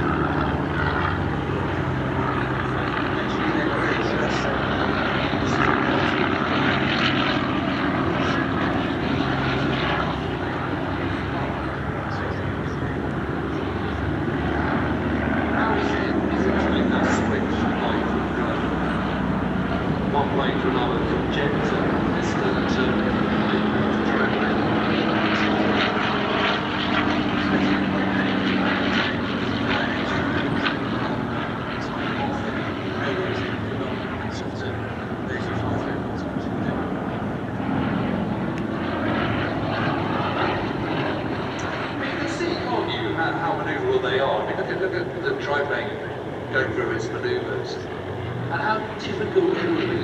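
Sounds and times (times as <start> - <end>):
propeller aeroplane engine: 0.0 - 50.0.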